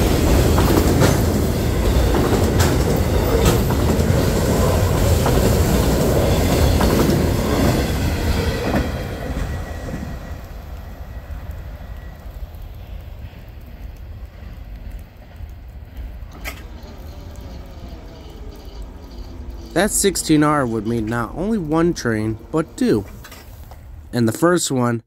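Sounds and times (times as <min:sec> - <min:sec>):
wheels clicking over rail joints: 0:00.0 - 0:24.0
freight train cars rolling past: 0:00.0 - 0:24.5.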